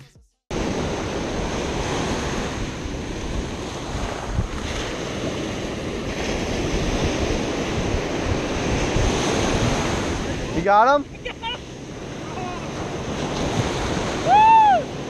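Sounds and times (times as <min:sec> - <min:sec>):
ocean surf breaking: 0:00.5 - 0:15.0
wind buffeting microphone: 0:00.5 - 0:15.0.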